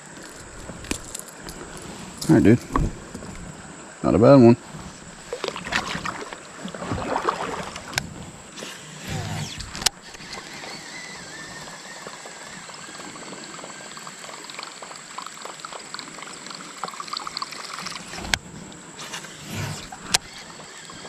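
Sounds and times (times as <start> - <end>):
creek water trickling: 0.0 - 21.0.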